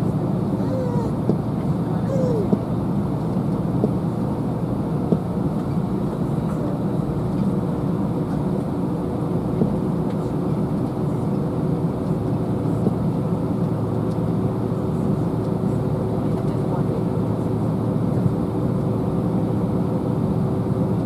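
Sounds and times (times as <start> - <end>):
jet engine and air hum: 0.0 - 21.0.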